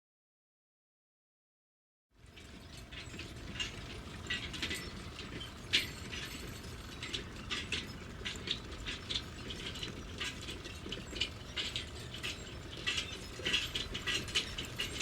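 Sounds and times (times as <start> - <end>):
low steady rumble: 2.2 - 15.0
truck rattling on rough ground: 2.2 - 15.0.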